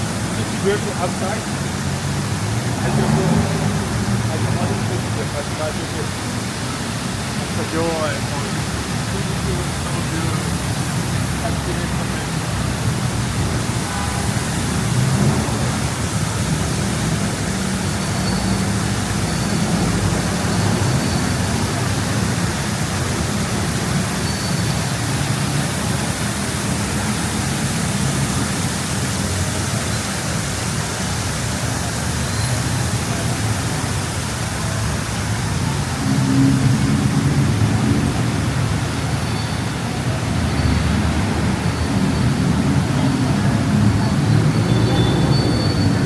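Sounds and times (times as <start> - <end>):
low rumble of traffic: 0.0 - 46.0.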